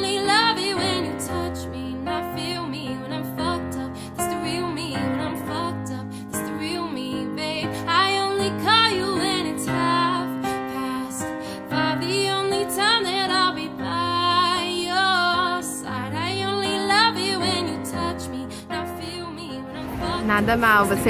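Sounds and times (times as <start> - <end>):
woman singing slow song: 0.0 - 20.7.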